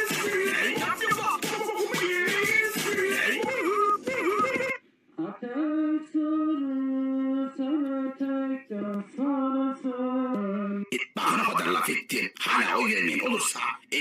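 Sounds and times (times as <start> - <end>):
solo person singing: 0.0 - 12.3.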